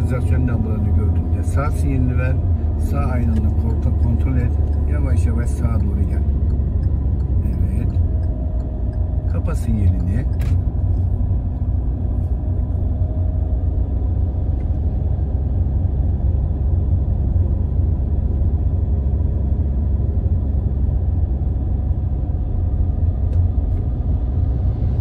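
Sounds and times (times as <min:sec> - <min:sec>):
car interior engine and tyre noise: 0:00.0 - 0:25.0.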